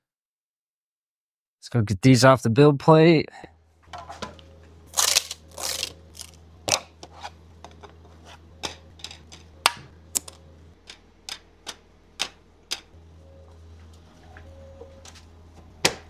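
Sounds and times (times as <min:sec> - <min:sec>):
steady low hum: 0:02.2 - 0:16.0.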